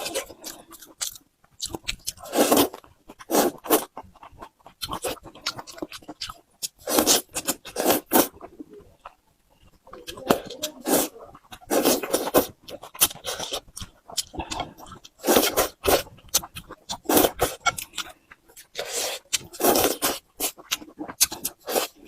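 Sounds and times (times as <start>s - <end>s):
person slurping and chewing noodles: 0.0s - 22.0s.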